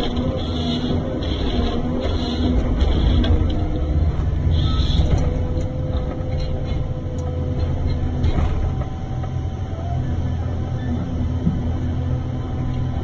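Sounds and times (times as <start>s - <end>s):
diesel engine and hydraulics drone: 0.0s - 13.0s.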